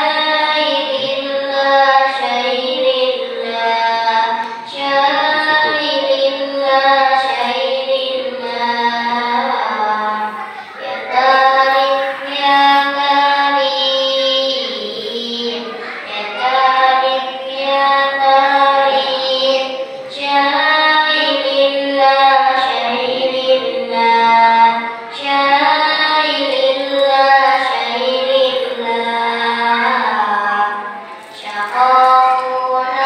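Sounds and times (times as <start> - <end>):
child singing devotional song: 0.0 - 33.0.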